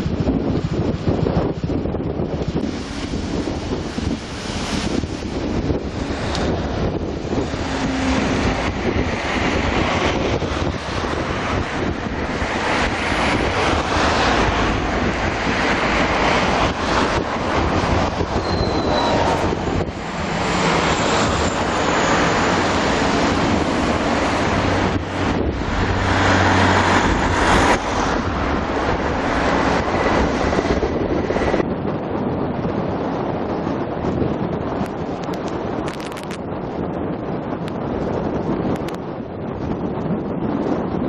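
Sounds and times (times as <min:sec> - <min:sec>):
low engine hum: 0:00.0 - 0:41.0
wind rushing over microphone: 0:00.0 - 0:41.0.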